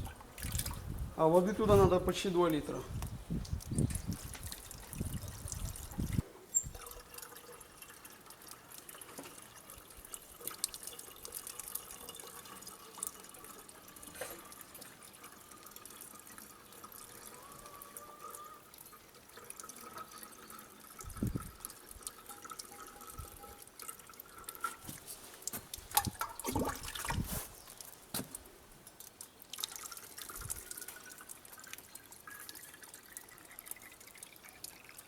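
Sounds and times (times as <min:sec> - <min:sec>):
water trickling and dripping: 0:00.0 - 0:35.0.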